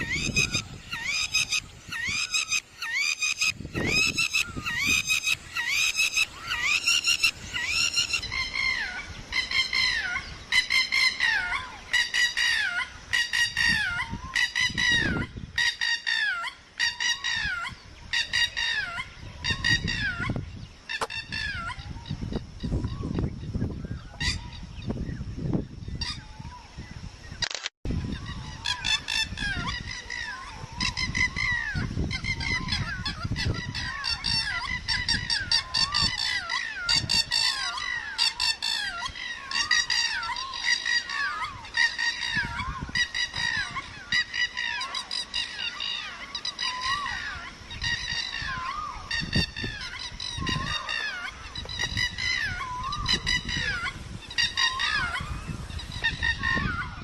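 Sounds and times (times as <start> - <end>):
birds honking: 0.0 - 23.0, 28.2 - 57.0.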